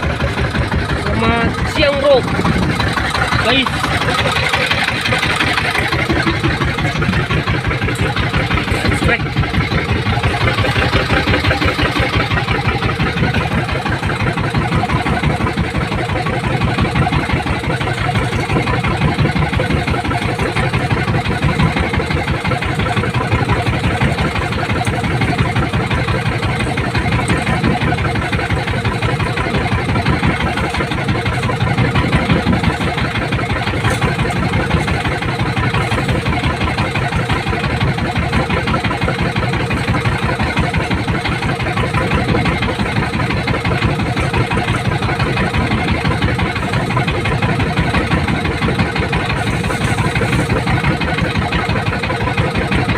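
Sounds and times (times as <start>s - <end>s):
small boat engine running: 0.0s - 52.9s.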